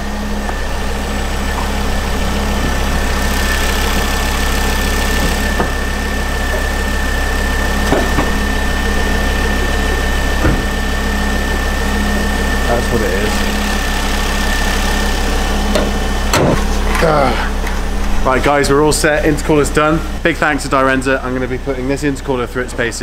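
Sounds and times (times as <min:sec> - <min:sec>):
car engine idling: 0:00.0 - 0:23.0
high whine: 0:00.0 - 0:23.0.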